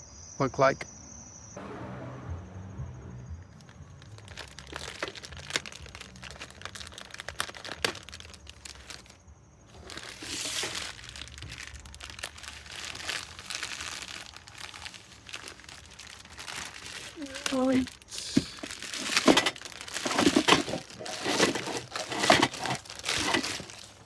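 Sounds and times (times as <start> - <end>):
packaging crinkling and rustling: 3.5 - 24.0.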